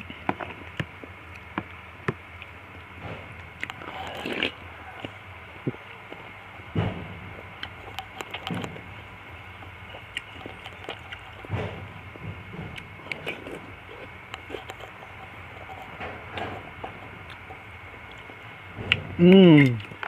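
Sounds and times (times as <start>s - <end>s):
person chewing and swallowing: 0.0s - 6.3s, 7.4s - 20.0s.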